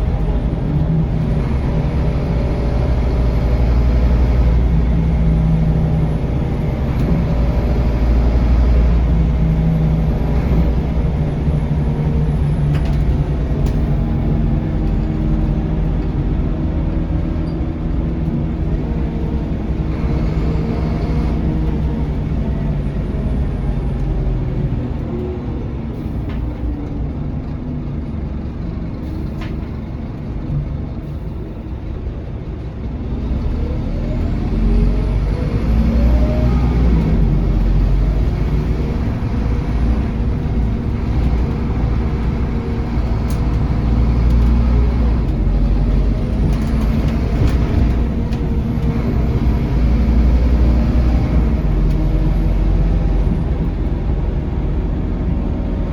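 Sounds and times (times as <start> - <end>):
bus diesel engine: 0.0 - 55.9.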